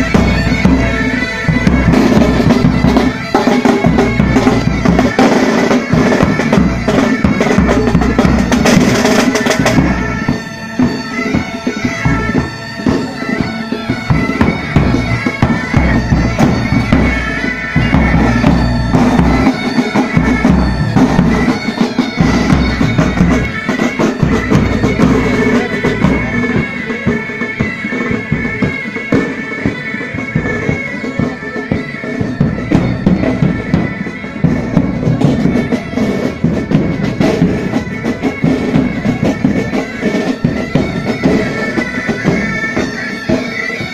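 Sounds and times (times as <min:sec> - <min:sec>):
bagpipes playing: 0:00.0 - 0:43.9
drums beating time: 0:00.0 - 0:43.9.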